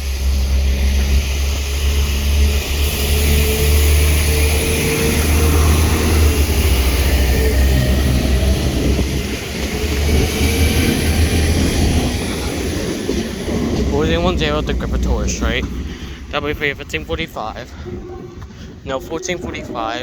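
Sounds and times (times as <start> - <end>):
diesel train rumbling past: 0.0 - 20.0.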